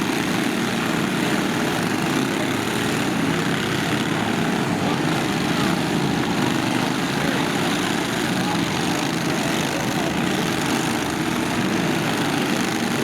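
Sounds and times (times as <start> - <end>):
lawn tractor engines droning: 0.0 - 13.0.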